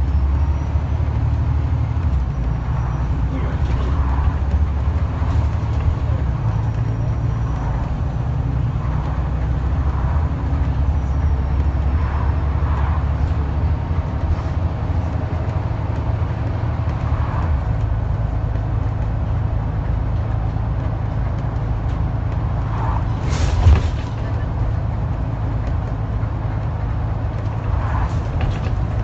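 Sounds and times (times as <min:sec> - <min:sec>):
bus diesel engine drone: 0:00.0 - 0:29.0
road noise: 0:00.0 - 0:29.0.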